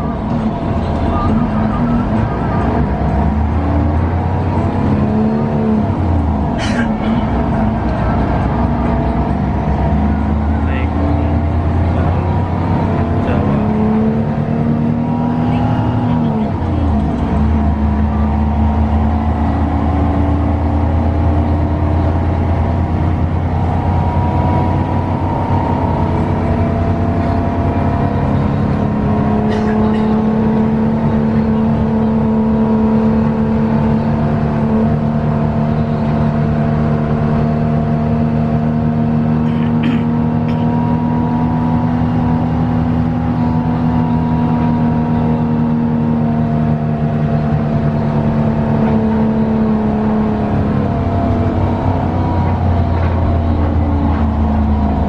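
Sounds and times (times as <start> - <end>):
coach diesel engine droning: 0.0 - 55.0.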